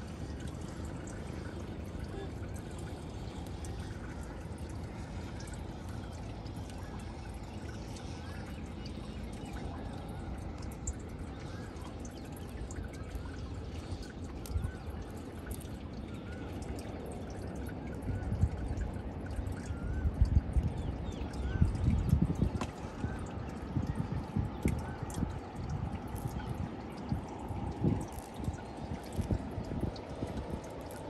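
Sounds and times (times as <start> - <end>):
water lapping against boat: 0.0 - 31.0.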